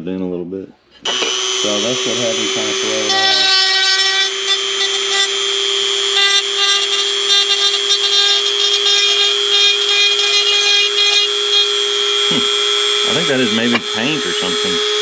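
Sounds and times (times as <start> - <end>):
rotary grinder grinding metal: 1.0 - 15.0.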